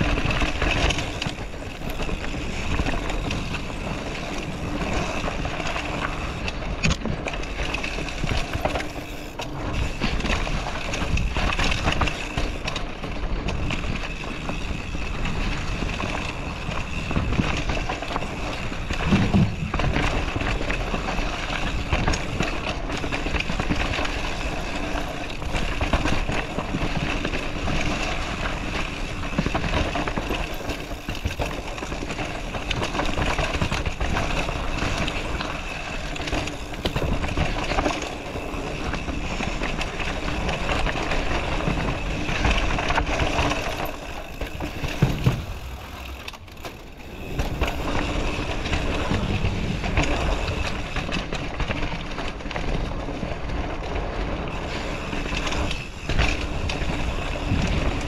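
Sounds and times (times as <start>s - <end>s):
bike rattling over roots: 0.0s - 58.0s
bike tyres rushing on dirt: 0.0s - 58.0s.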